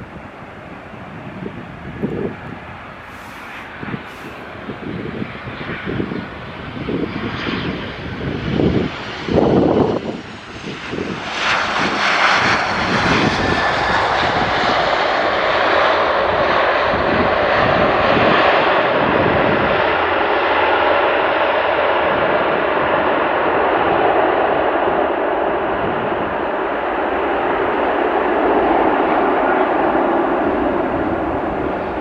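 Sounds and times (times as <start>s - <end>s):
jet engines at high power: 0.0s - 32.0s
wind buffeting microphone: 0.0s - 32.0s.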